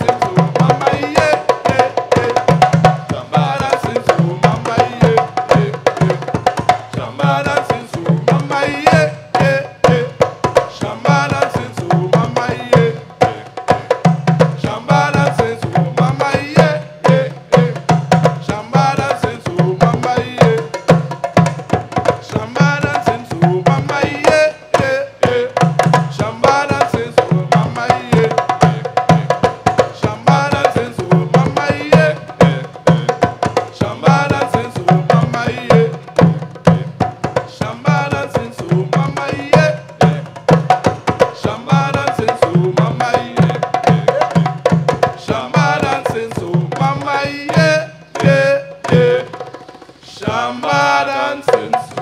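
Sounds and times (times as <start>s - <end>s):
hand drums playing fast rhythm: 0.0s - 52.0s
man singing: 0.0s - 52.0s.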